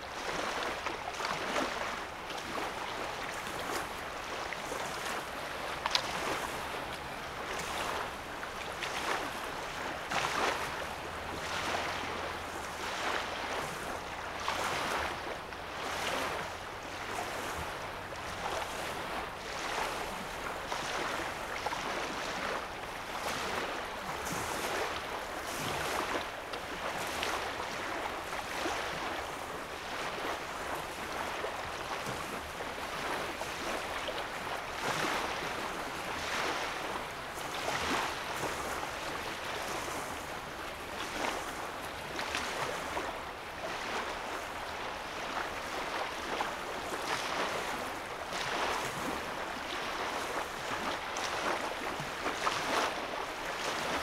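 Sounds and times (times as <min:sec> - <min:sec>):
small waves lapping on shore: 0:00.0 - 0:54.0.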